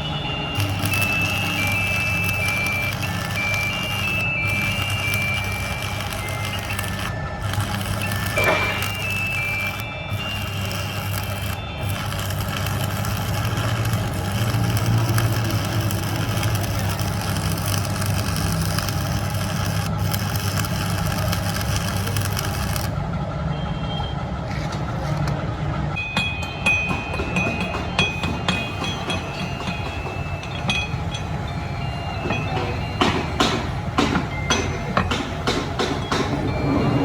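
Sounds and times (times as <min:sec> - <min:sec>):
high ringing tone: 0:00.0 - 0:22.9, 0:26.0 - 0:37.0
workshop machinery grinding: 0:00.0 - 0:23.1, 0:26.4 - 0:37.0.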